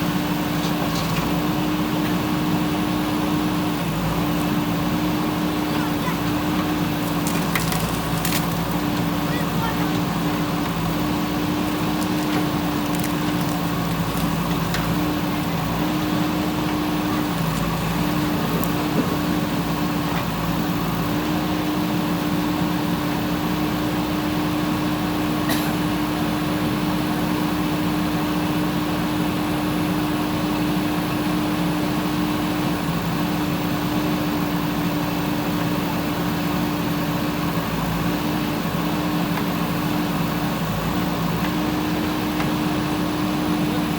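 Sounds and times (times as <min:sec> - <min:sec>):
diesel engine running steadily: 0:00.0 - 0:43.9.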